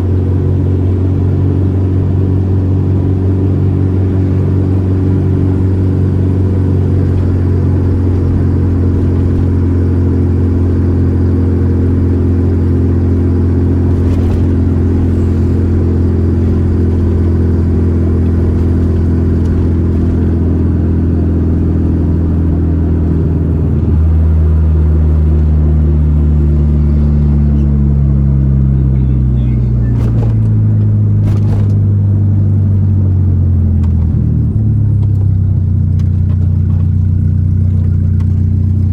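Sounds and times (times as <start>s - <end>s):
car engine running while driving: 0.0s - 38.9s.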